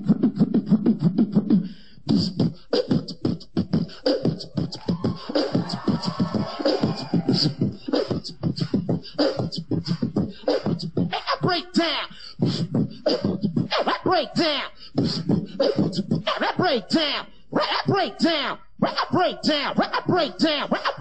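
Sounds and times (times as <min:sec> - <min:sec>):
beatboxing: 0:00.0 - 0:21.0
swooping pitched vocal sounds: 0:00.0 - 0:21.0.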